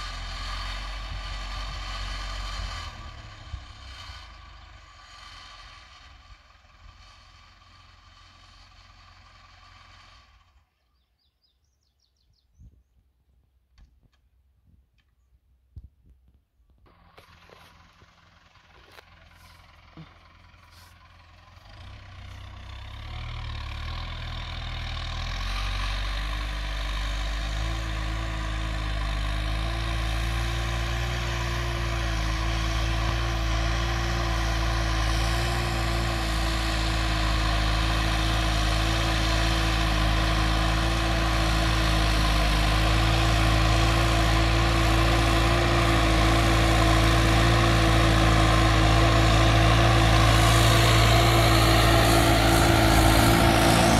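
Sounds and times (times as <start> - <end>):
tractor diesel engine under load: 0.0 - 11.1, 16.8 - 53.9.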